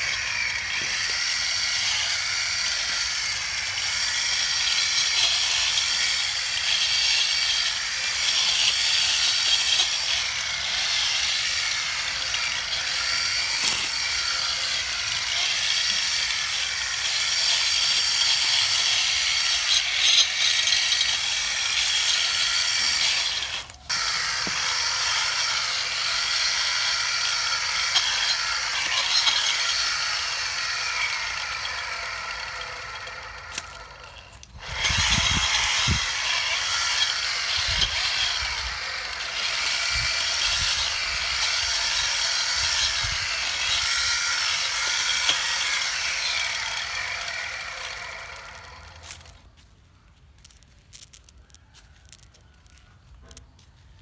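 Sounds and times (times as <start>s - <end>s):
lawn mower running: 0.0s - 49.6s.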